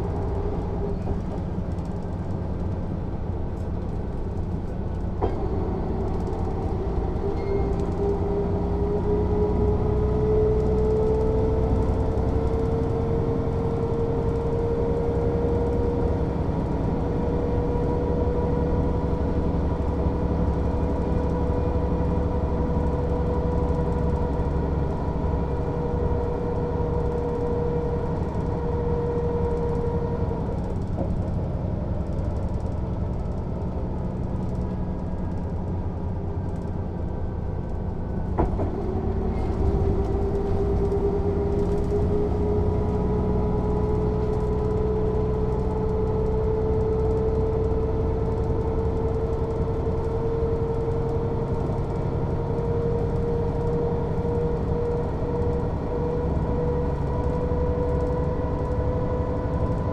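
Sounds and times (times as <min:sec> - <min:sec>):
bus running noise: 0:00.0 - 0:59.9.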